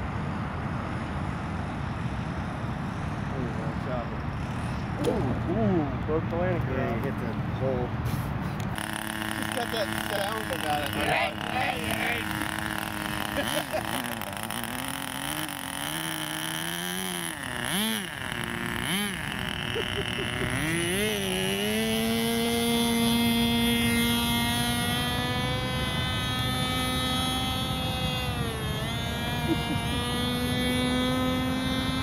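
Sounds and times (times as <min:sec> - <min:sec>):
model airplane engine droning: 0:00.0 - 0:32.0.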